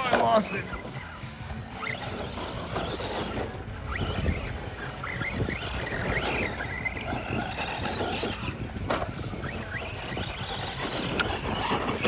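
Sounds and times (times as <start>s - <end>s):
rc car motor whining: 0.0s - 12.0s
tyres and wind rushing: 0.0s - 12.0s.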